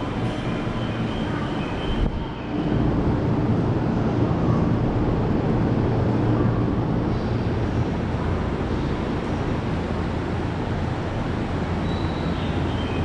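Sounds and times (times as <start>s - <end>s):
faint hum: 0.0s - 13.0s
railway station rumble: 0.0s - 13.0s.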